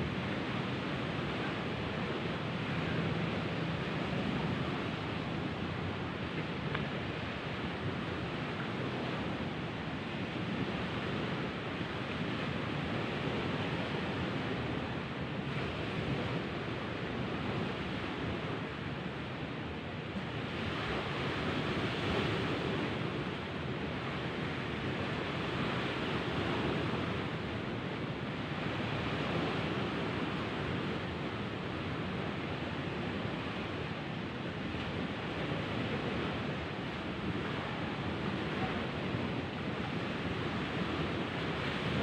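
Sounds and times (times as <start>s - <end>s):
sea surf washing on shore: 0.0s - 42.0s.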